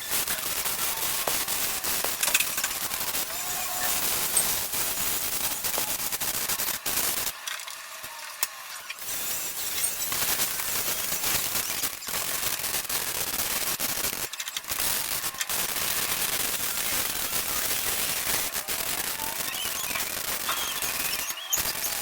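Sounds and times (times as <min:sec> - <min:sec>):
welding arc crackling: 0:00.0 - 0:22.0.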